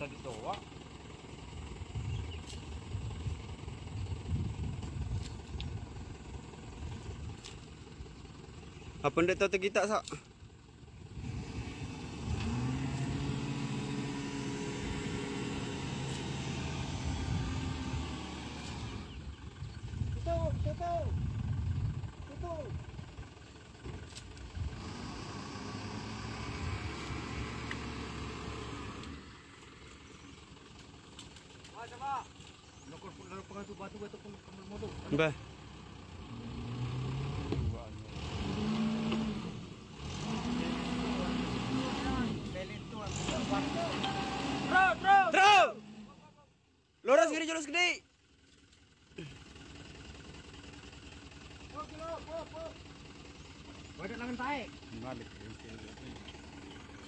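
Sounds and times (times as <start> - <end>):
diesel engine labouring: 0.0 - 57.0.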